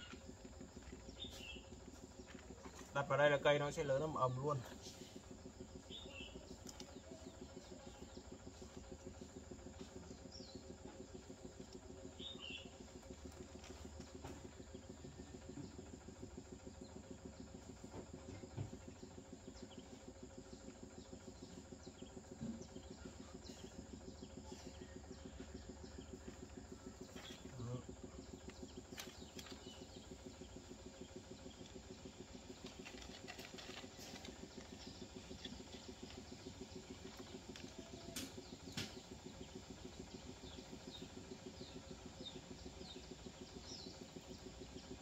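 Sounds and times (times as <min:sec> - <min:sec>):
fluttering background hum: 0:00.0 - 0:45.0.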